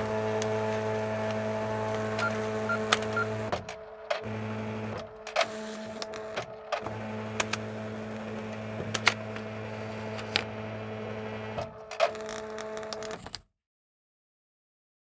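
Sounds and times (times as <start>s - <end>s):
fax machine clicks: 0.0s - 13.2s
fax machine whirring: 0.0s - 13.2s.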